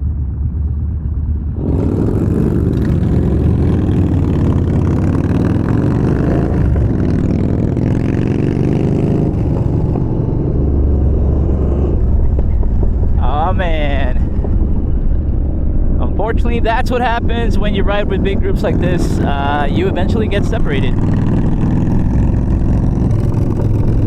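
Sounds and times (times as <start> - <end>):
motorcycle engine running: 0.0 - 24.0
wind rushing: 0.0 - 24.0.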